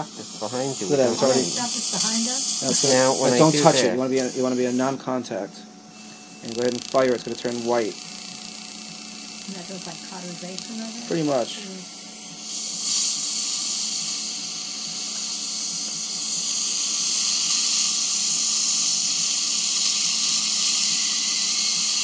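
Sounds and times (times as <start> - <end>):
dental laser hissing: 0.0 - 22.0.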